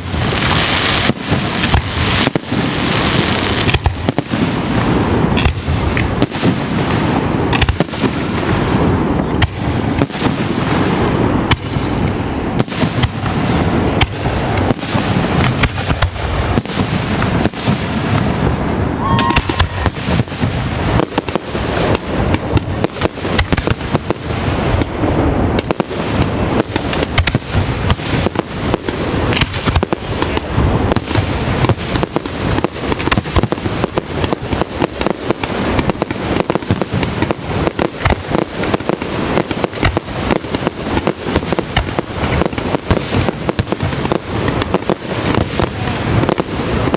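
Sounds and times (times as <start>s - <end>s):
fireworks bangs: 0.0s - 46.9s.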